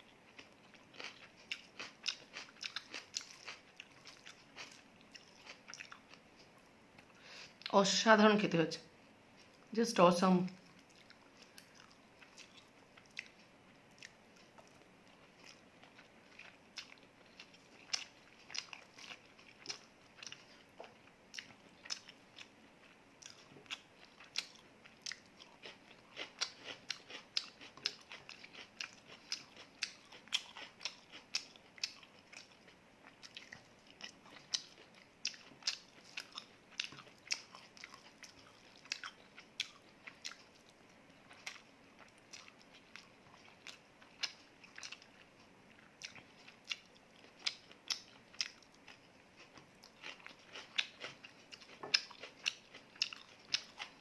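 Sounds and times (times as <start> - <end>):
person chewing crunchy food: 0.0 - 7.7, 10.5 - 54.0.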